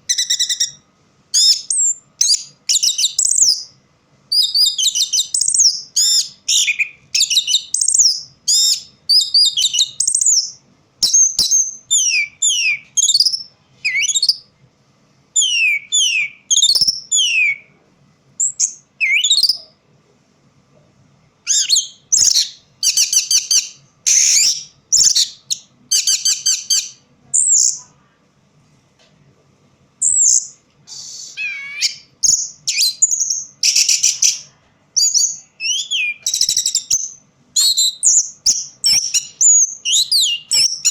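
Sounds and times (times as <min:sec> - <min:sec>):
thrush singing whistles: 0:00.0 - 0:14.5, 0:15.4 - 0:17.7, 0:18.4 - 0:19.7, 0:21.5 - 0:27.8, 0:30.0 - 0:40.9.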